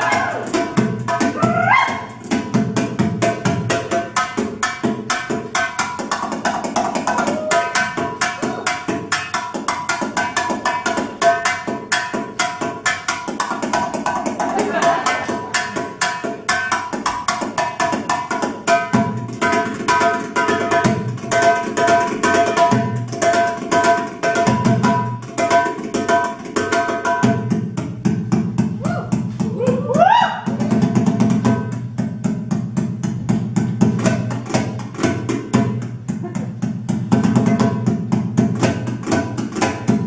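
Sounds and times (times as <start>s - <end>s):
fast hand-drum rhythm: 0.0s - 40.0s.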